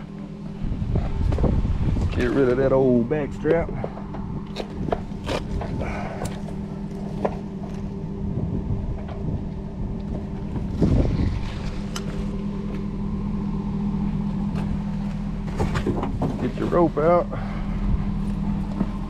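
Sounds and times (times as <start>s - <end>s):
pickup truck engine idling: 0.0s - 19.0s.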